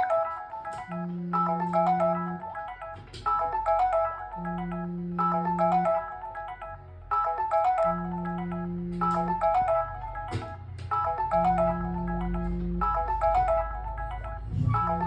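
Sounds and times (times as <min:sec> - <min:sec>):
phone alarm melody: 0:00.0 - 0:15.0.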